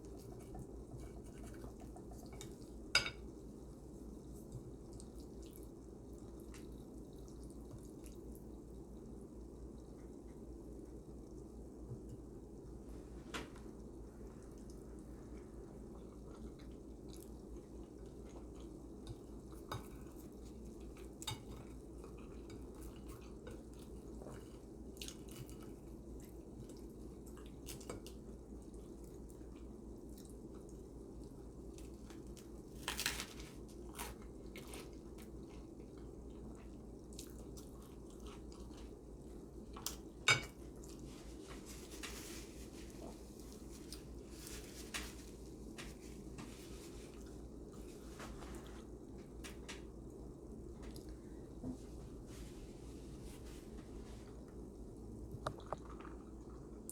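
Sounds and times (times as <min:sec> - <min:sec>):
soft chewing: 0:00.0 - 0:56.9.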